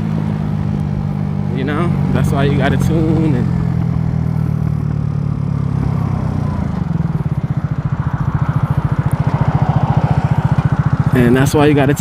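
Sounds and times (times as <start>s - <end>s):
scooter engine revving high: 0.0s - 12.0s.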